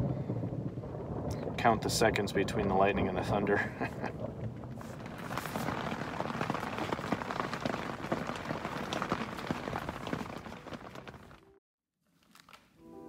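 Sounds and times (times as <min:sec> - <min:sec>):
rain pattering on tent fabric: 0:00.0 - 0:11.5.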